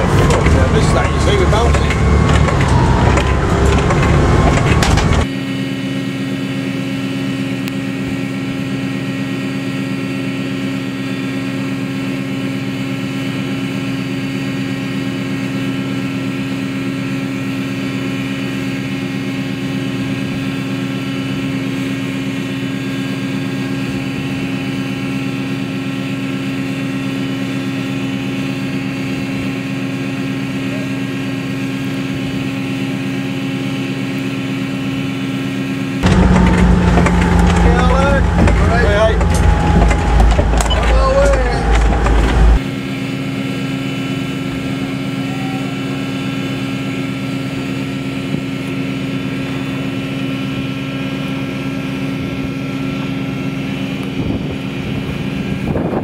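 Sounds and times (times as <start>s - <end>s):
ship engines droning: 0.0s - 56.0s.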